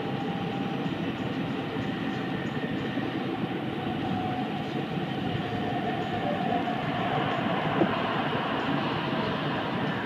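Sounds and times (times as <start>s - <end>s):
faint steady whine: 0.0s - 10.0s
train wheels and air rumble: 0.0s - 10.0s.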